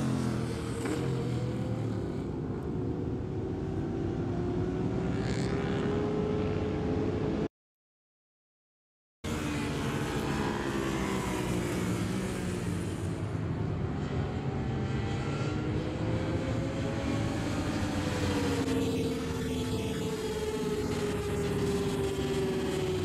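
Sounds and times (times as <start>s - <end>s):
motorcycle engines racing: 0.0s - 7.5s, 9.3s - 23.0s.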